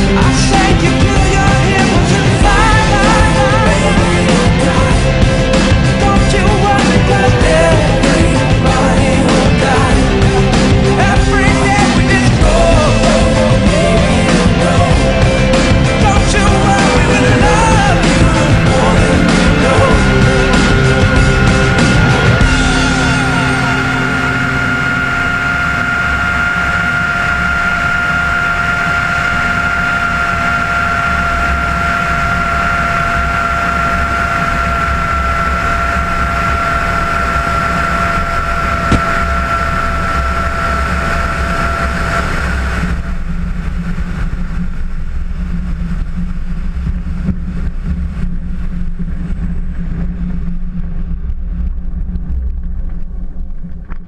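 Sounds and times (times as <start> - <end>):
high whine: 0.0 - 54.0
low rolling rumble: 0.0 - 54.0
wind noise on microphone: 0.0 - 54.0.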